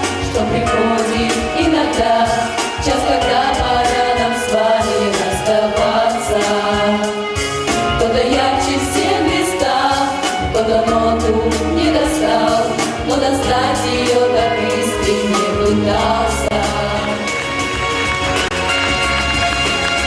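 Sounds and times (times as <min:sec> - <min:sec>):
people singing: 0:00.0 - 0:18.0
accompaniment with steady beat: 0:00.0 - 0:20.0.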